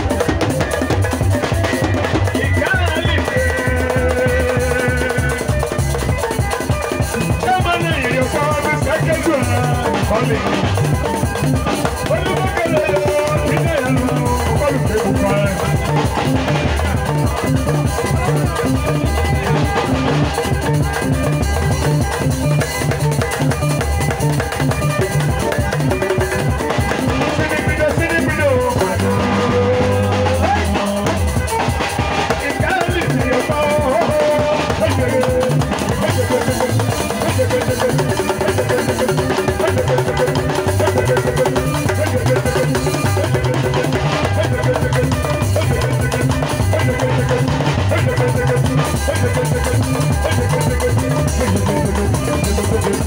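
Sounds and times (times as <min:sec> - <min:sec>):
bass line: 0:00.0 - 0:53.0
drum kit beat: 0:00.0 - 0:53.0
live band playing dance music: 0:00.0 - 0:53.0.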